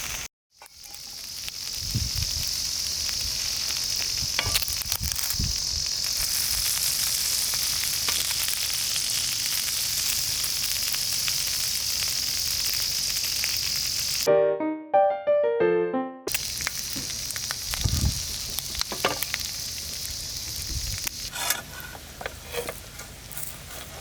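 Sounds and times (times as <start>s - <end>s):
food sizzling in a pan: 0.0s - 14.3s, 16.3s - 24.0s
sharp pops and crackles: 0.0s - 14.3s, 16.3s - 21.3s.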